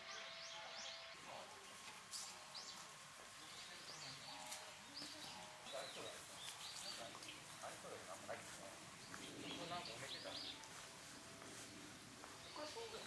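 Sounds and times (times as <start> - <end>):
faint outdoor ambient noise: 0.0 - 13.0
small birds chirping: 0.0 - 13.0.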